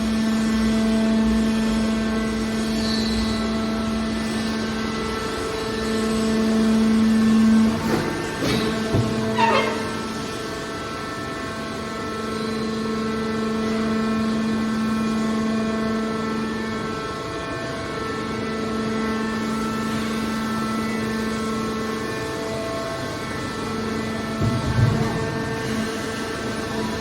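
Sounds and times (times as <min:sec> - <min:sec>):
hydraulic power unit humming: 0:00.0 - 0:27.0.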